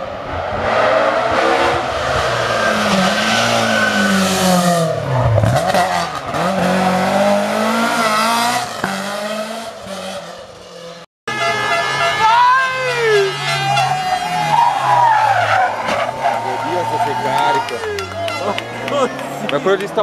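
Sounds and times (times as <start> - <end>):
rally car engine revving: 0.2 - 20.0.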